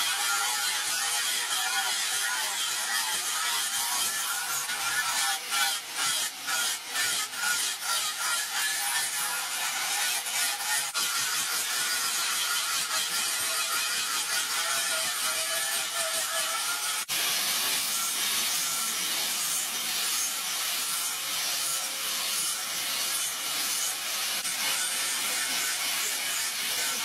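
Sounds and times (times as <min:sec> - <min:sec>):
angle grinder grinding metal: 0:00.0 - 0:27.0.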